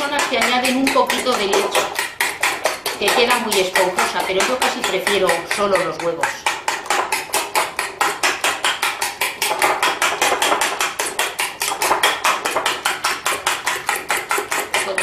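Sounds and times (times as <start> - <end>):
whisk clicking against glass bowl: 0.0 - 15.0.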